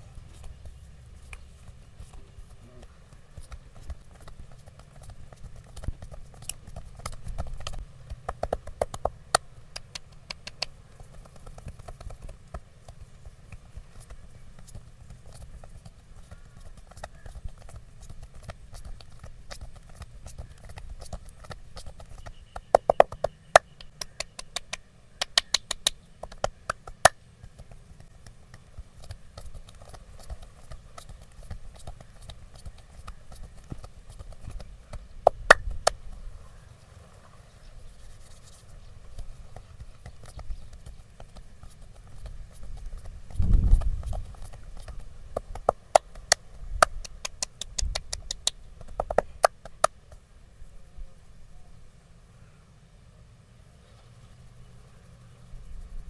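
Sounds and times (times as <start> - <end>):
wooden sticks tapping on body: 0.2 - 36.2, 38.0 - 50.2.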